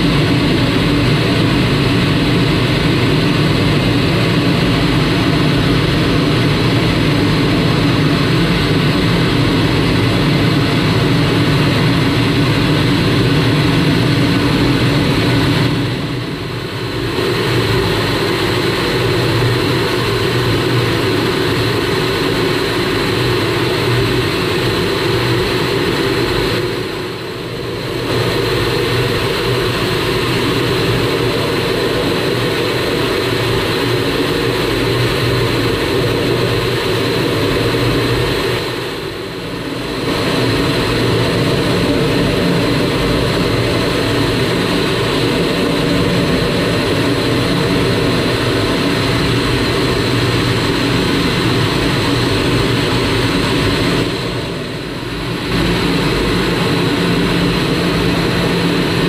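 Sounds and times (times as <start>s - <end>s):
jet engine drone with whine: 0.0s - 59.0s.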